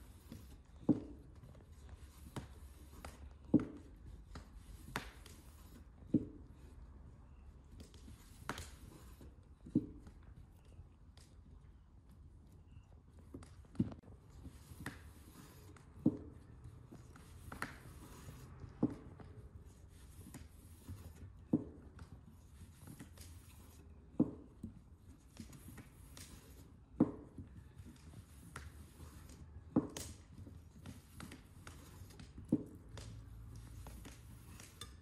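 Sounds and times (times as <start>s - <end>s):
dough scraping and rubbing: 0.0s - 11.4s, 13.4s - 35.0s.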